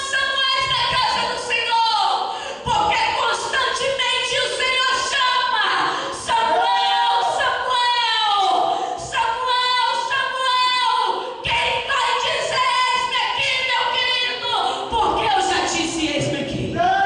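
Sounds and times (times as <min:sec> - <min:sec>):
woman singing a cappella: 0:00.0 - 0:17.0.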